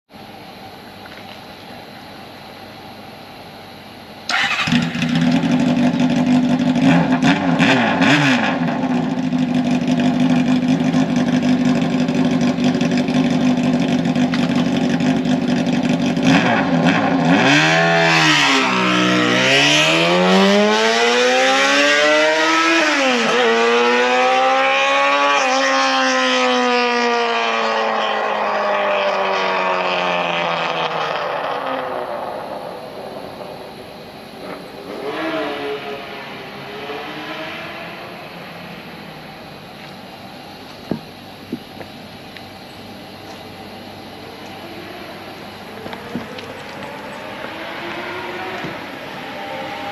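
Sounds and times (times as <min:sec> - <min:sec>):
motorcycle engine idling and revving: 0:04.3 - 0:49.9.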